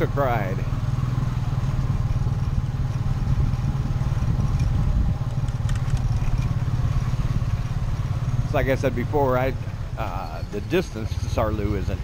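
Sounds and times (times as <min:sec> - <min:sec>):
motorcycle engine running steadily: 0:00.0 - 0:12.0
light rattles: 0:01.6 - 0:12.0.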